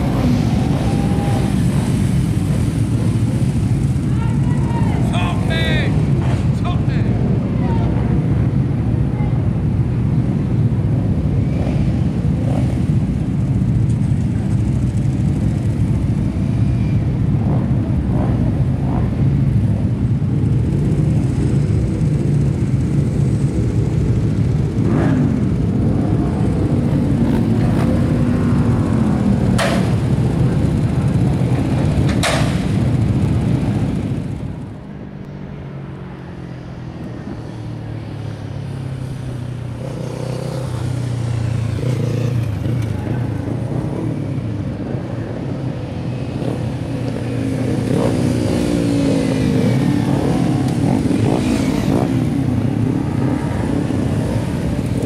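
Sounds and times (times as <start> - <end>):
motorcycle engines running: 0.0 - 55.0.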